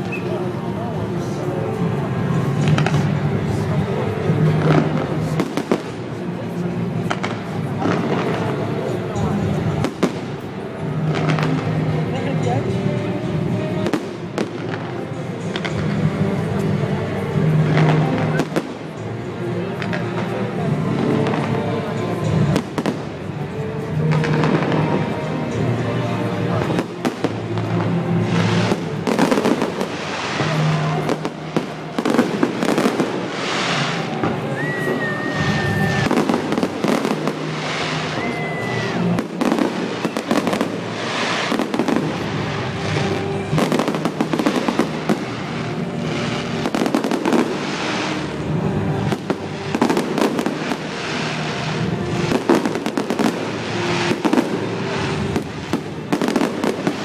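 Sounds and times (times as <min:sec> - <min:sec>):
fireworks bangs and crackles: 0:00.0 - 0:57.0
music playing: 0:00.0 - 0:57.0.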